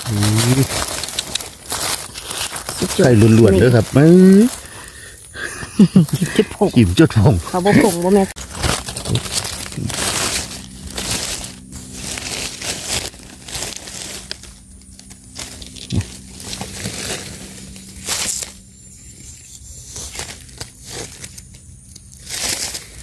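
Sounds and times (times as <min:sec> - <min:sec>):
dry leaves rustling and crackling: 0:00.0 - 0:23.0
soil scraping: 0:00.0 - 0:23.0.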